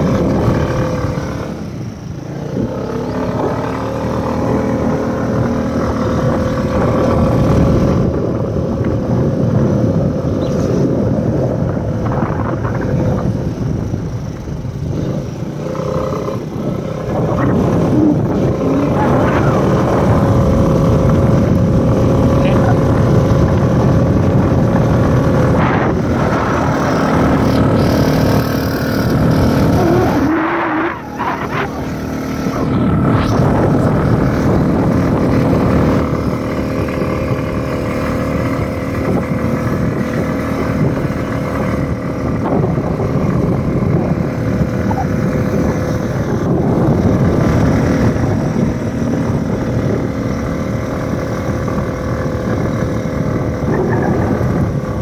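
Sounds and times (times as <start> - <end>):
road and air noise: 0.0 - 55.0
vehicle engine running: 0.0 - 55.0.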